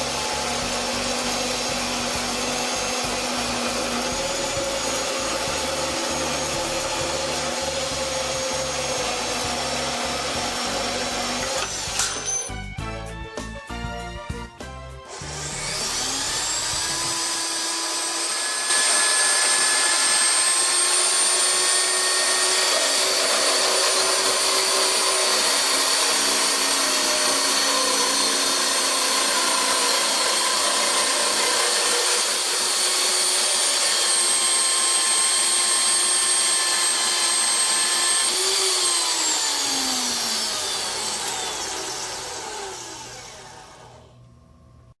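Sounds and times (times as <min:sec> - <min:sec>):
band saw motor whining: 0:00.0 - 0:12.7, 0:15.0 - 0:44.3.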